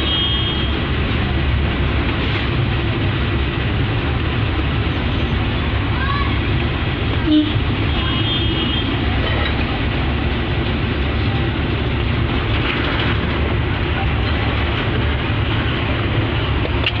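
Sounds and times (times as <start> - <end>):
steady rumbling noise: 0.0 - 17.0.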